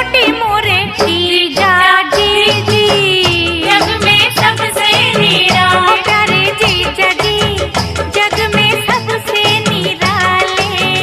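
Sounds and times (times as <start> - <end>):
film song with steady beat: 0.0 - 11.0.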